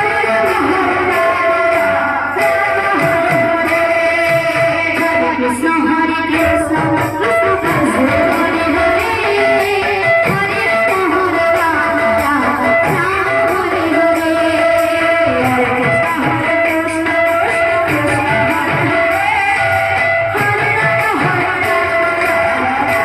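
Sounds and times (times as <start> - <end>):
cymbal beat: 0.0 - 23.0
plucked-string melody: 0.0 - 23.0.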